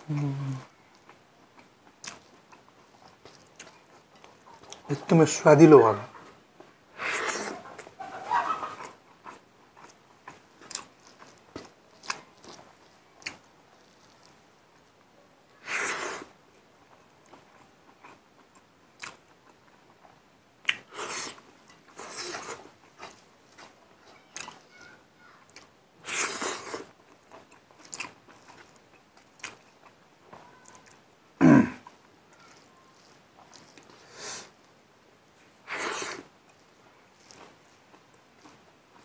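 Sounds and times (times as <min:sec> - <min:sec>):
person chewing food: 0:00.0 - 0:05.1, 0:07.0 - 0:39.0.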